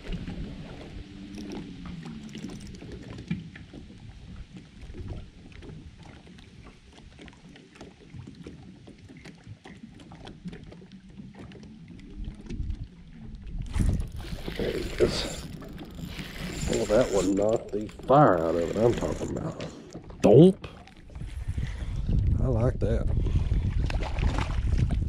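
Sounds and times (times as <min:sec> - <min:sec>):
waves lapping against boat hull: 0:00.0 - 0:25.0.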